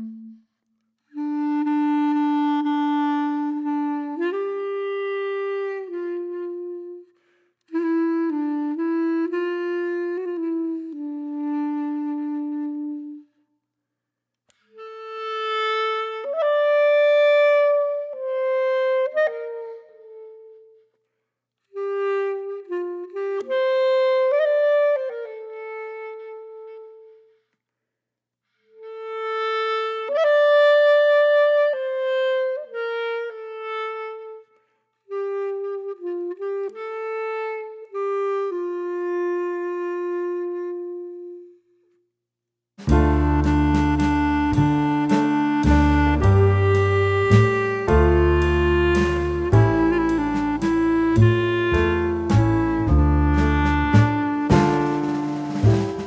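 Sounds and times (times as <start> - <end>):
solo woodwind slow melody: 0.0 - 13.4, 14.6 - 20.9, 21.7 - 27.4, 28.8 - 41.8, 42.8 - 56.0.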